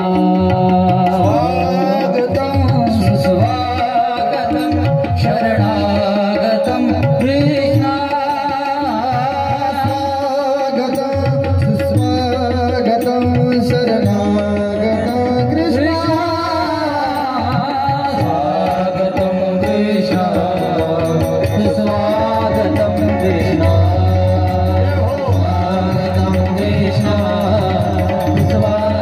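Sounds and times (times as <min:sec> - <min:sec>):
tabla rhythm: 0:00.0 - 0:29.0.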